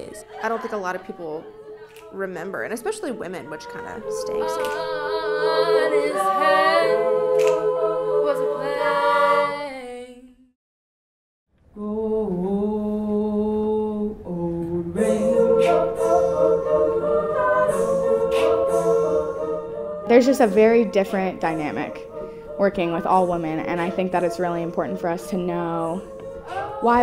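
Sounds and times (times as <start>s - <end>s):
women singing a cappella harmony: 0.0s - 10.5s, 11.8s - 27.0s.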